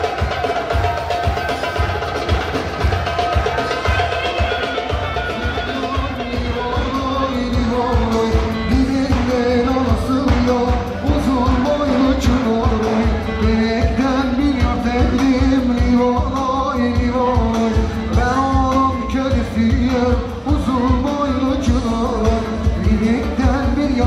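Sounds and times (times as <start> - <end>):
person singing with band: 0.0 - 24.0.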